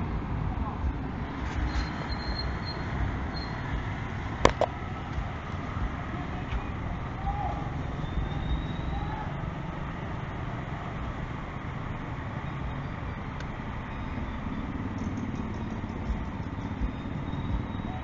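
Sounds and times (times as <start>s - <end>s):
car passing: 0.0s - 18.0s
motorcycle passing: 0.0s - 18.0s
rumble of engines and tyres: 0.0s - 18.0s.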